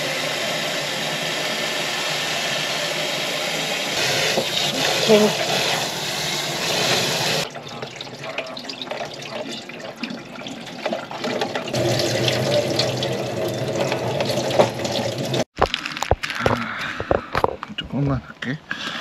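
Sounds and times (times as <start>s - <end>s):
tap water running into sink: 0.0s - 15.5s.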